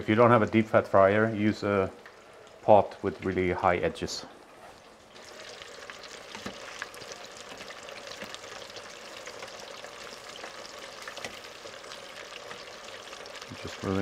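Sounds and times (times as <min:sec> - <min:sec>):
chicken deep-frying in oil: 0:00.0 - 0:14.0.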